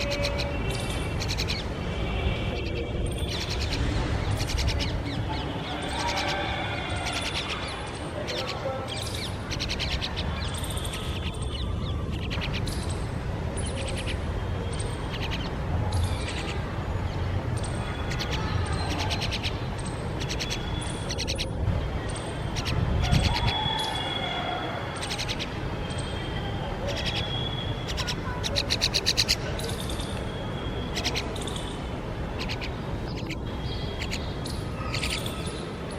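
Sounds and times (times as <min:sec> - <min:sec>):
myna birds calling harshly: 0:00.0 - 0:35.9.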